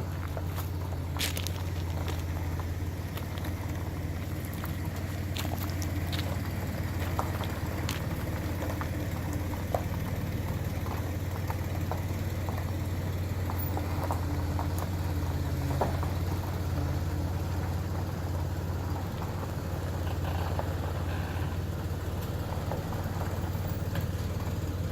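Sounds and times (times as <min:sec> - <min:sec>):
boat engine idling: 0:00.0 - 0:24.9.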